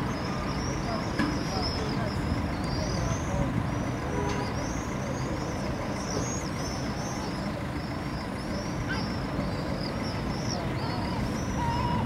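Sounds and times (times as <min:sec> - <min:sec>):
city traffic rumble: 0:00.0 - 0:12.0
high chirping bird calls: 0:00.0 - 0:12.0.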